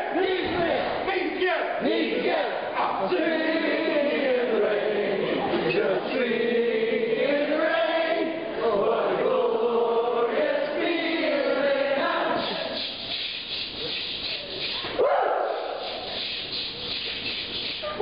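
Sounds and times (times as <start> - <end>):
voices chanting: 1.7 - 18.0.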